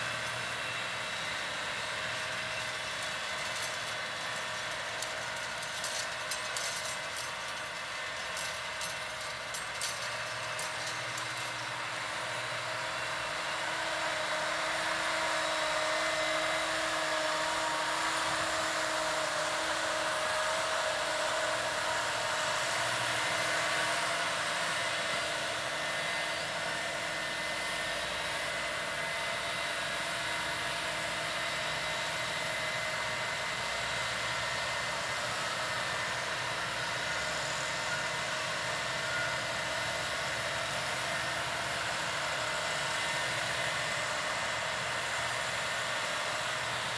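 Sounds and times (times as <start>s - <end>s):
steady whining tones: 0.0s - 46.9s
tractor working under load: 0.0s - 46.9s.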